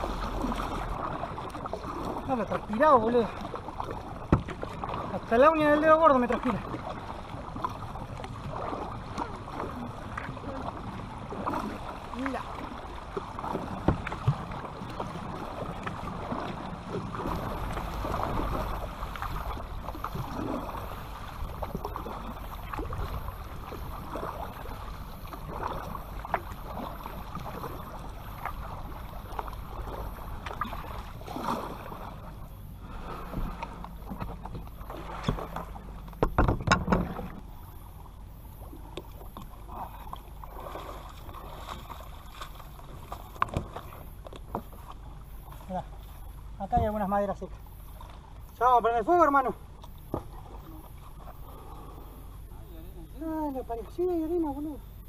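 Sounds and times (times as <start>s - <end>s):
paddle splashing water: 0.0s - 55.0s.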